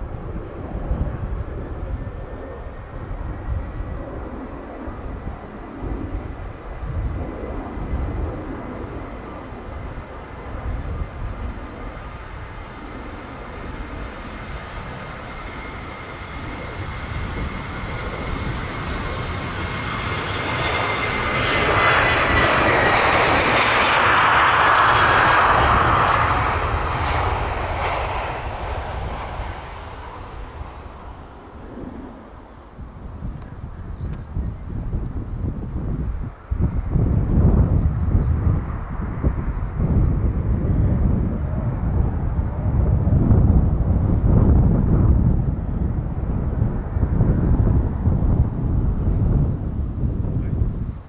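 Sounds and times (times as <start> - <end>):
jet airliner takeoff roar: 0.0 - 51.0
wind rumbling on microphone: 0.0 - 51.0.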